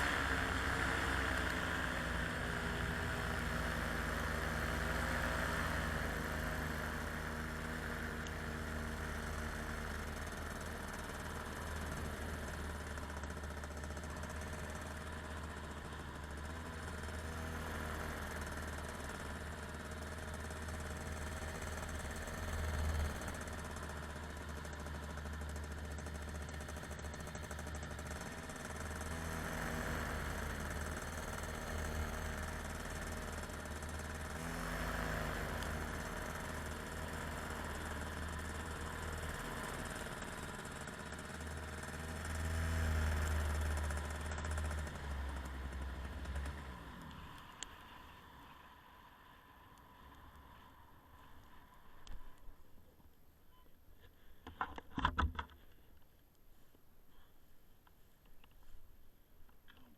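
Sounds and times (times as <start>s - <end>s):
engine running steadily: 0.0s - 52.5s.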